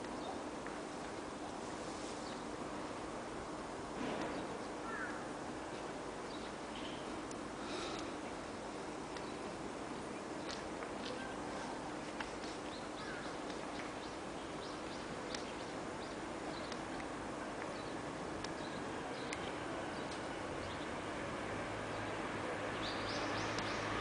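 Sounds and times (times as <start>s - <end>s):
small birds chirping: 0.0s - 3.0s, 4.2s - 21.0s, 21.8s - 24.0s
outdoor background hum: 0.0s - 24.0s.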